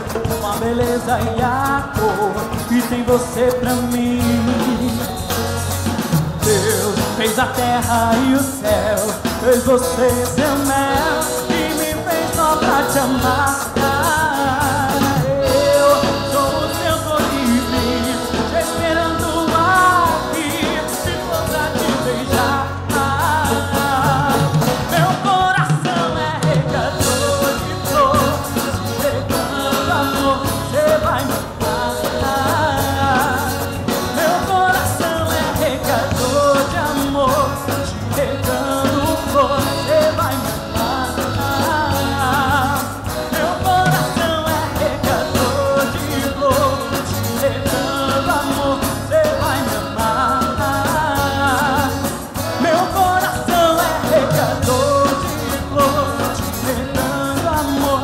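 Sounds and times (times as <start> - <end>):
accordion: 0.0 - 58.0
live band music: 0.0 - 58.0
man singing: 0.0 - 58.0.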